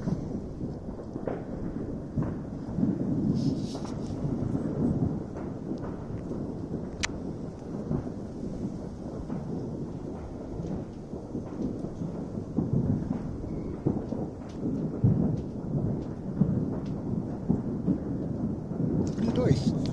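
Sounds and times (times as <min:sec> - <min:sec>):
distant fireworks rumbling: 0:00.0 - 0:19.9
fireworks thuds: 0:00.0 - 0:19.9.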